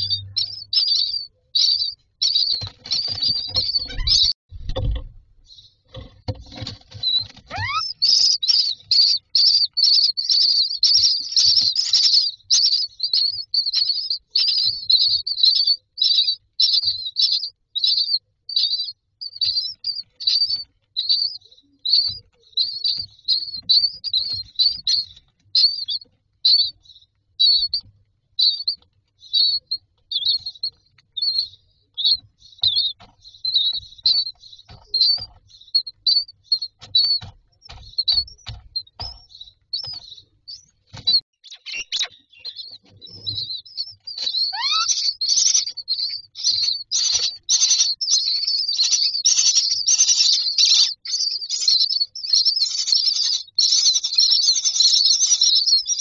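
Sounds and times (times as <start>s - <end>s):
nestlings chirping: 0.0s - 56.0s.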